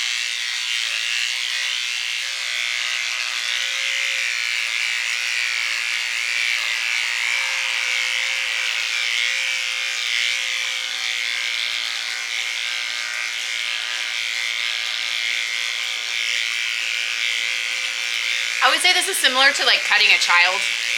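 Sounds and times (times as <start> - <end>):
electric hair clippers buzzing: 0.0 - 20.9.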